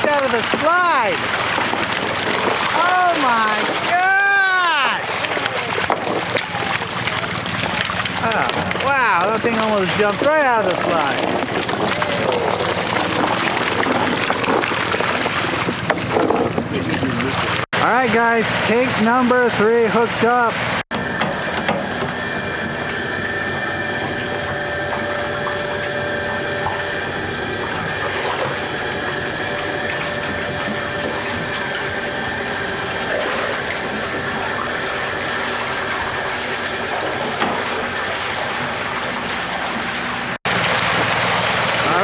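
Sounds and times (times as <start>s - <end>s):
water rushing through hose: 0.0s - 17.7s, 24.0s - 42.0s
faint mechanical hum: 0.0s - 42.0s.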